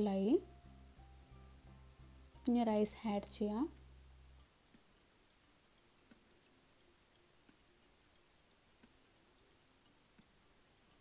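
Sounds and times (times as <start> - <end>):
faint light ticks: 0.4 - 11.0.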